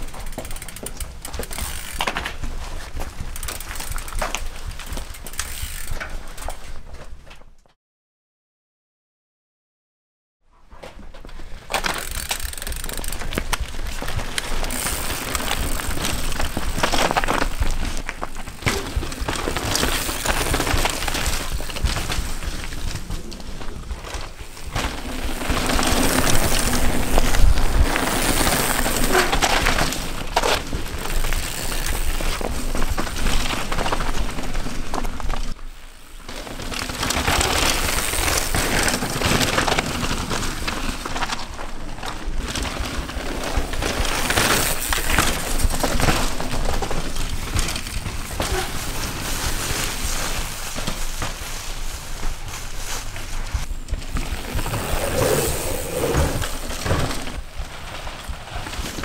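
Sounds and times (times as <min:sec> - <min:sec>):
bike tyres rushing on dirt: 0:00.0 - 0:07.5, 0:11.0 - 0:59.0
bikes crunching and rattling: 0:00.0 - 0:07.7, 0:10.6 - 0:59.0.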